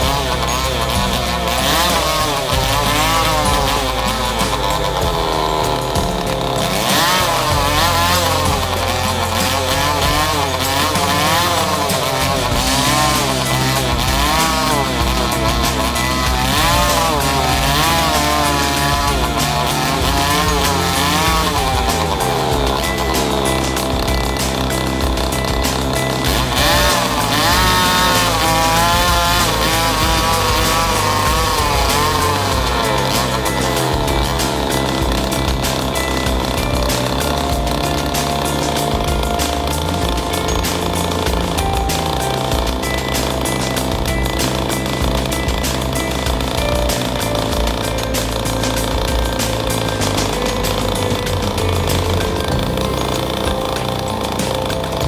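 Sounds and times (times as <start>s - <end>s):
small engine revving: 0.0s - 55.0s.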